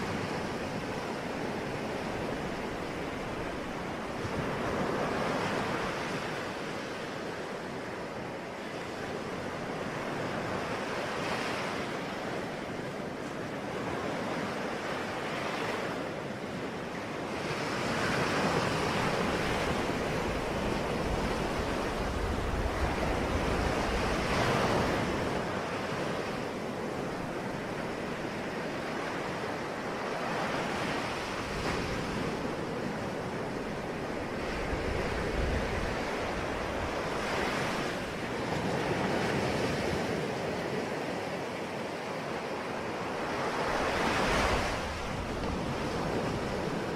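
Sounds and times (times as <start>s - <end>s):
ocean waves breaking on shore: 0.0s - 46.9s.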